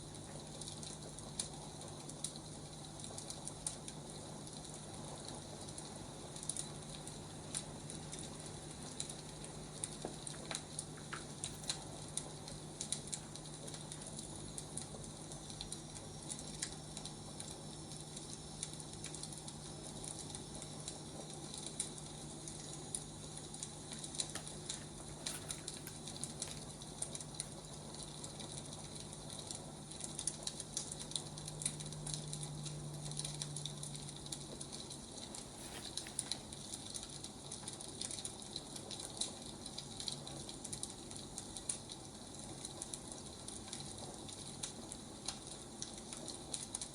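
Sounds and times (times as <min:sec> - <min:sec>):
low steady hum: 0:00.0 - 0:46.9
wood fire crackling: 0:00.0 - 0:46.9.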